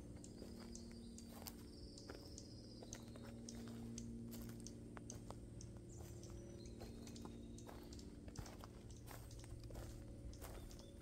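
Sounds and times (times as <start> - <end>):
footsteps through dry undergrowth: 0.0 - 11.0.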